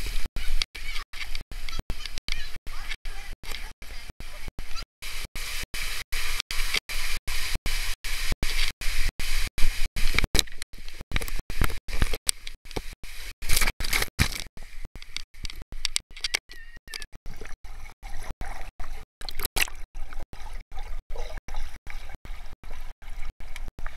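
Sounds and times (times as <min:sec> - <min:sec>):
water splashing: 0:00.0 - 0:23.9.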